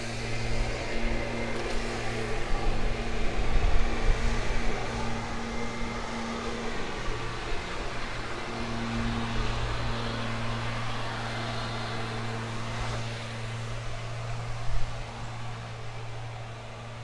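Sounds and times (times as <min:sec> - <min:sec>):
electric motor low hum: 0:00.0 - 0:17.0.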